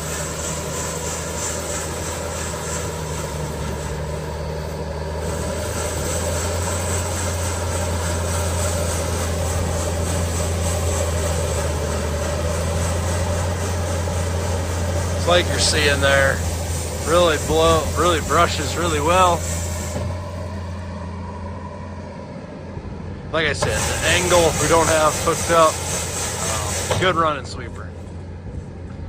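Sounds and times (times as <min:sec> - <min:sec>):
rotary sweeper broom: 0:00.0 - 0:22.6, 0:23.4 - 0:27.9
skid steer engine running: 0:00.0 - 0:29.0.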